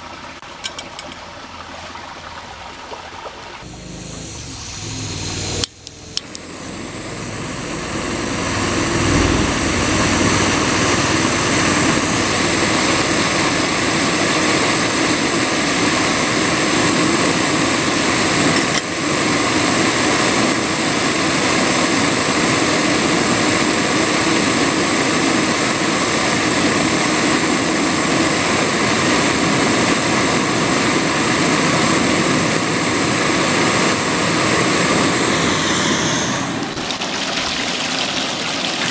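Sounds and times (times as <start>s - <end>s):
gas stove burner hissing: 3.7s - 36.8s.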